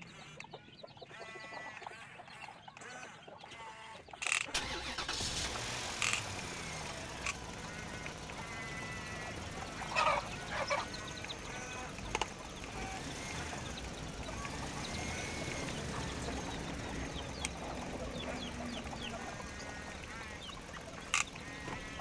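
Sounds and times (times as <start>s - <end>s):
chickens clucking: 0.0s - 22.0s
short chirping calls: 0.0s - 22.0s
toy excavator motor whine: 1.2s - 22.0s.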